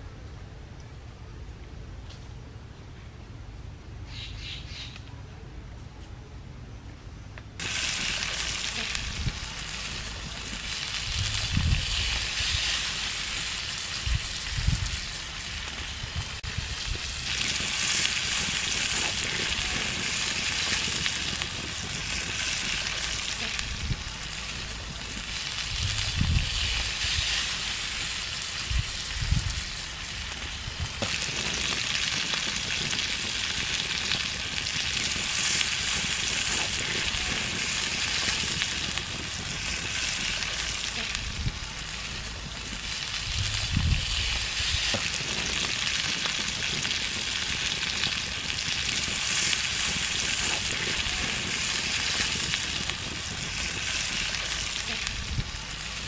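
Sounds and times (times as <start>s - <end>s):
shrimp sizzling in hot oil: 7.6s - 56.0s.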